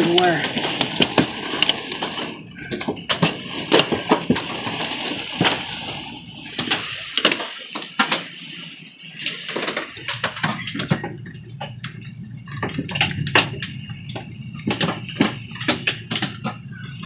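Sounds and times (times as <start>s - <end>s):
hailstones hitting: 0.0s - 8.6s, 9.2s - 11.7s, 12.6s - 16.6s
heavy rain on a roof: 0.0s - 17.0s.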